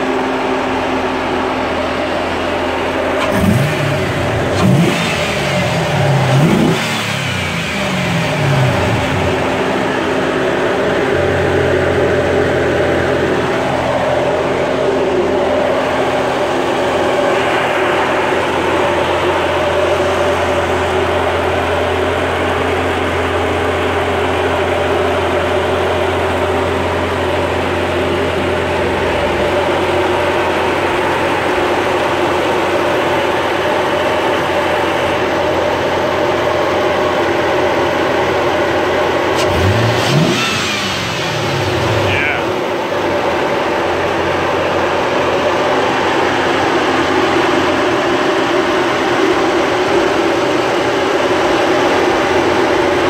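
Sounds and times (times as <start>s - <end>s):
car engine idling: 0.0s - 53.0s
engine revving: 0.0s - 53.0s.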